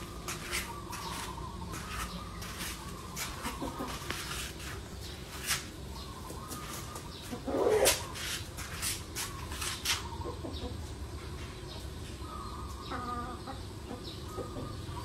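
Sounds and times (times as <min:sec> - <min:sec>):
chickens clucking: 0:00.0 - 0:15.0
steady low hum: 0:00.0 - 0:15.0.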